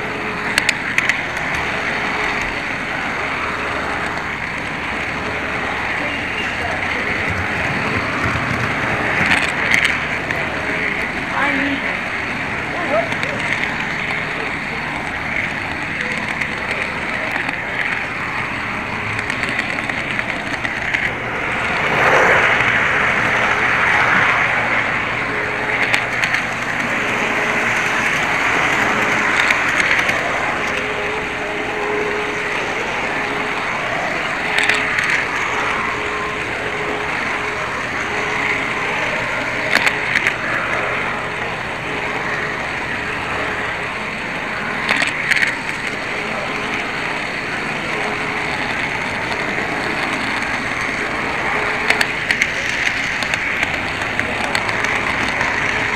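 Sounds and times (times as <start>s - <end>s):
model train wheels rattling on rail: 0.0s - 55.9s.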